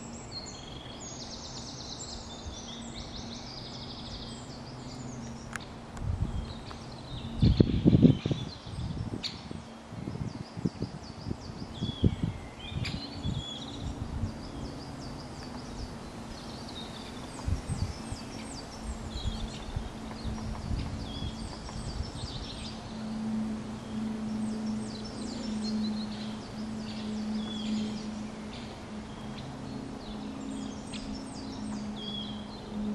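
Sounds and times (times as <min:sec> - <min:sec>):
low steady hum: 0:00.0 - 0:32.9
songbirds chirping: 0:00.0 - 0:32.9.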